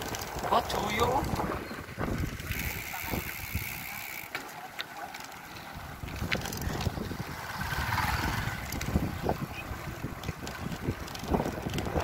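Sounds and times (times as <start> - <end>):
wind buffeting microphone: 0.0 - 4.2, 5.6 - 12.0
bike tyre rumble on concrete: 0.0 - 12.0.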